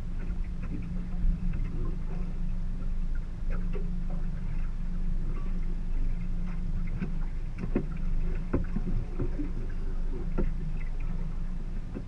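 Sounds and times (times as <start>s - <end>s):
water rumbling against boat hull: 0.0s - 12.0s.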